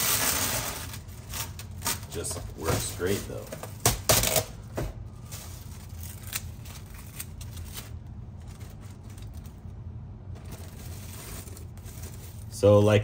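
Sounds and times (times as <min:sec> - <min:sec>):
plastic wrap crinkling: 0:00.0 - 0:04.5, 0:05.1 - 0:09.7, 0:10.4 - 0:12.7.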